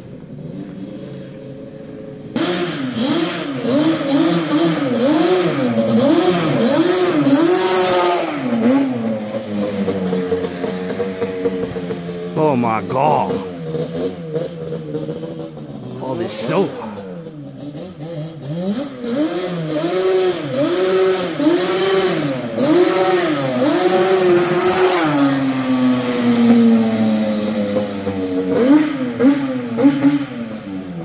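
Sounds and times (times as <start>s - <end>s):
two-stroke engine revving: 0.3s - 31.0s.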